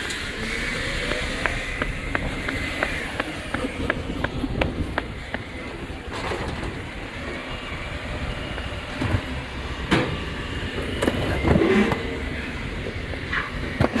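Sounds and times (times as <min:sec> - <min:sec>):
garbage truck rumbling: 0:00.0 - 0:14.0.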